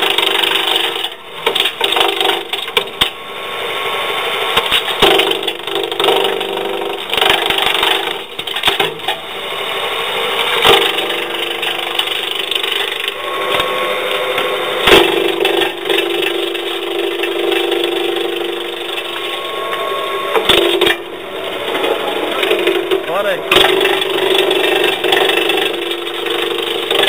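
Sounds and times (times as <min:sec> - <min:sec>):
wood cracking in chipper: 0:00.0 - 0:03.2, 0:04.6 - 0:09.2, 0:10.2 - 0:27.0
branch chipper humming: 0:00.0 - 0:27.0.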